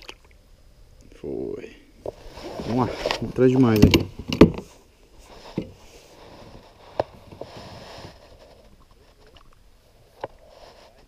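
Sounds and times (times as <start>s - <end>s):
soft rustling: 2.0s - 11.0s.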